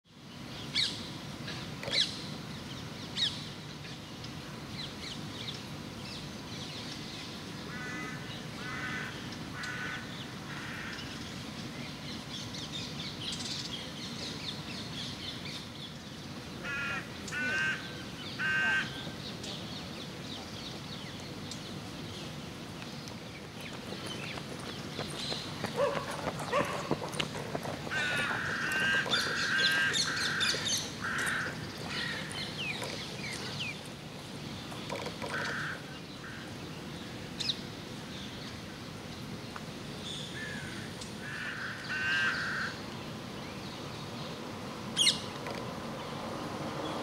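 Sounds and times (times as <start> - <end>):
birds calling: 0.3 - 47.0.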